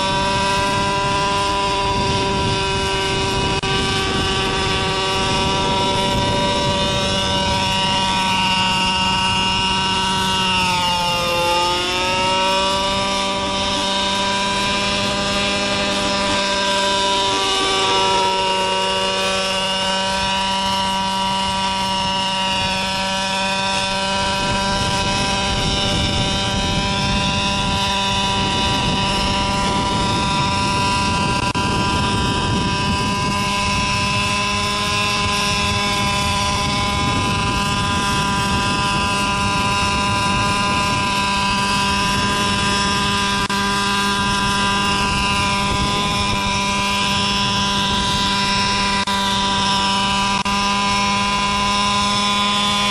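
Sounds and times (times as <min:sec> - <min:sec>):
model helicopter engine running: 0:00.0 - 0:52.9
rotor noise: 0:00.0 - 0:52.9.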